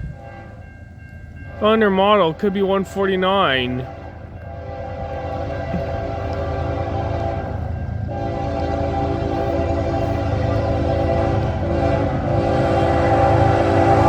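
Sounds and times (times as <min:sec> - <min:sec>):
locomotive air horn blasts: 0:00.0 - 0:00.7, 0:02.8 - 0:14.0
low rumble of passing train: 0:00.0 - 0:14.0.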